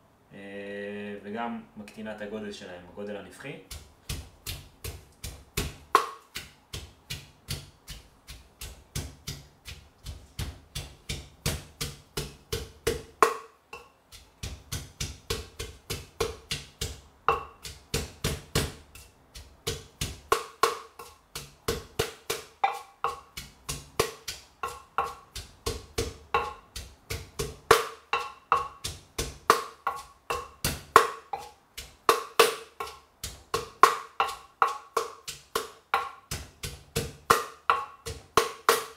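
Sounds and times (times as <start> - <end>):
pestle pounding in clay mortar: 3.6 - 38.9.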